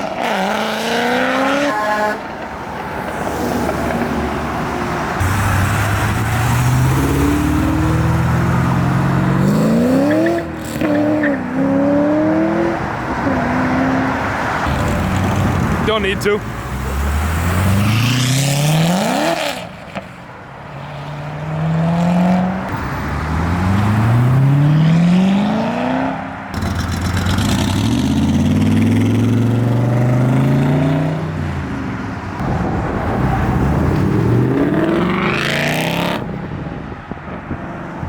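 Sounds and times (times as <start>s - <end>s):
performance cars accelerating: 0.0s - 2.6s, 3.2s - 20.1s, 20.8s - 36.4s.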